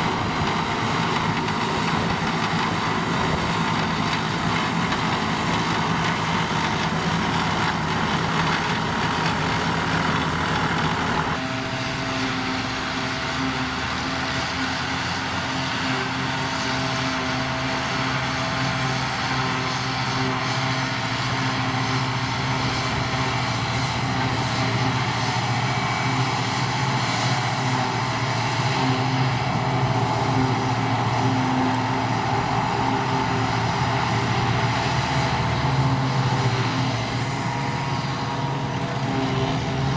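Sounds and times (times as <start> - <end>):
forage harvester chopping grass: 0.0 - 39.9
harvester engine and chopper running: 0.0 - 39.9
tractor engine under load: 0.0 - 39.9.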